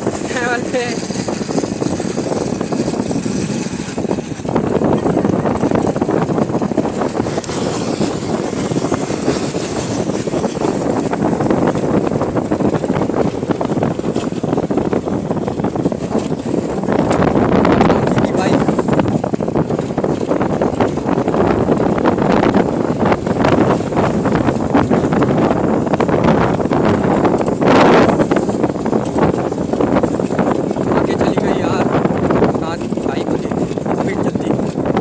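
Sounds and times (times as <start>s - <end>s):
motorcycle riding at speed: 0.0s - 35.0s
wind rushing over microphone: 0.0s - 35.0s.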